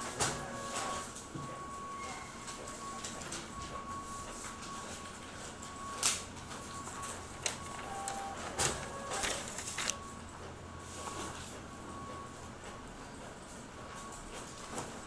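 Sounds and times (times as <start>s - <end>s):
copier running with whine: 0.0s - 15.0s.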